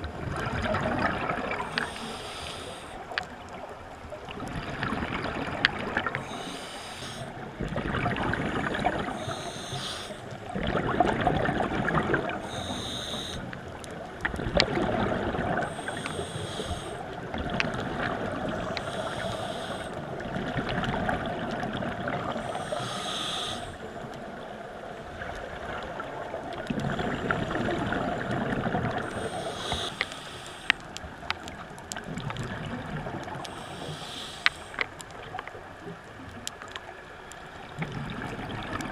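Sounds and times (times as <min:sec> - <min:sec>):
exhale bubbling underwater: 0:00.0 - 0:24.4, 0:25.2 - 0:34.5, 0:37.6 - 0:38.9.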